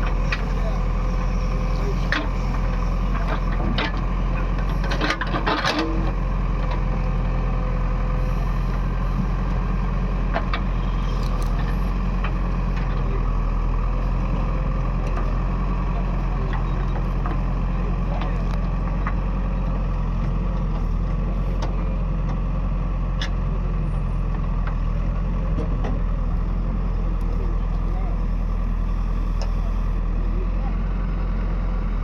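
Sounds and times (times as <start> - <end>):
large engine running steadily: 0.0 - 32.0.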